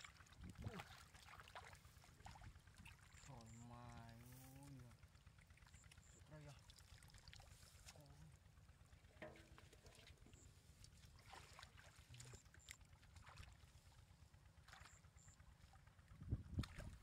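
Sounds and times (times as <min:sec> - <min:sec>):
muddy water sloshing: 0:00.0 - 0:17.0.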